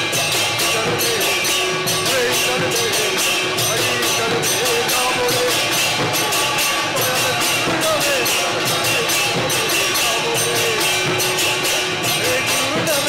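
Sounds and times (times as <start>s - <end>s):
barrel drums beating: 0.0s - 13.0s
hand cymbals: 0.0s - 13.0s
wavering melody: 0.0s - 13.0s.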